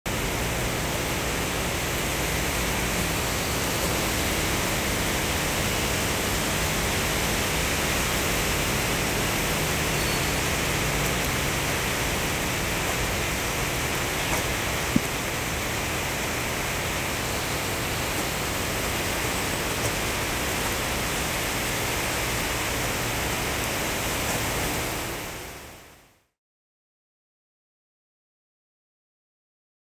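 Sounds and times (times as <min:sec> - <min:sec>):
heavy rain on pavement: 0:00.1 - 0:26.0.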